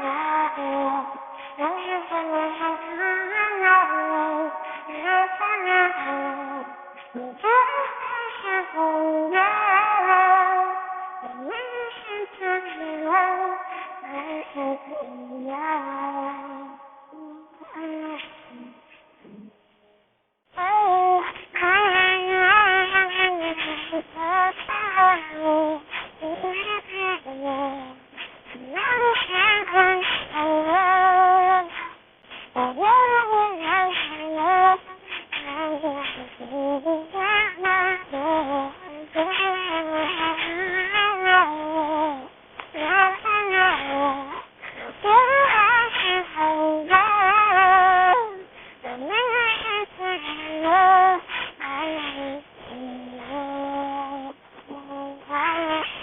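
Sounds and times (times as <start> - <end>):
synthetic cat-like singing voice: 0.0 - 19.6, 20.6 - 56.0.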